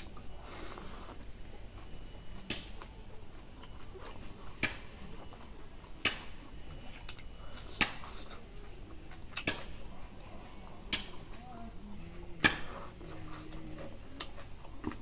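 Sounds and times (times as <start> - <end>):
man chewing with mouth open: 0.0 - 15.0.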